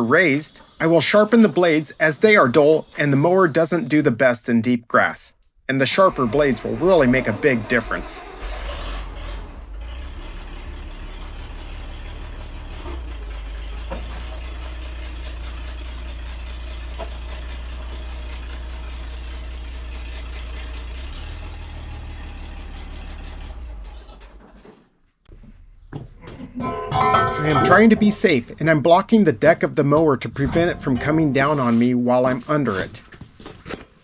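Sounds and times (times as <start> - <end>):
tractor engine idling: 0.0 - 3.9, 5.8 - 24.7, 26.6 - 33.5.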